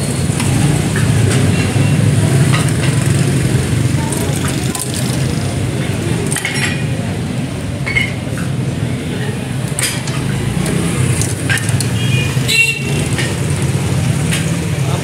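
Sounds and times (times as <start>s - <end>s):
busy street rumble: 0.0s - 15.0s.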